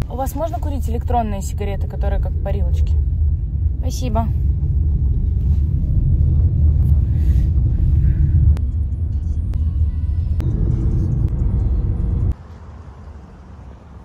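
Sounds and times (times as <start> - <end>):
road and engine rumble in car cabin: 0.0 - 14.0.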